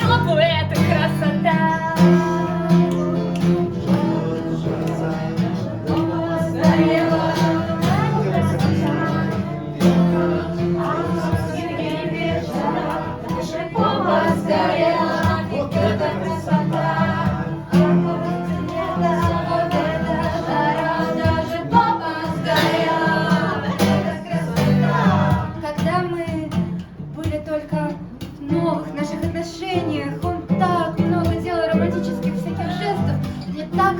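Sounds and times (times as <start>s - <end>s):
voices singing together: 0.0s - 33.9s.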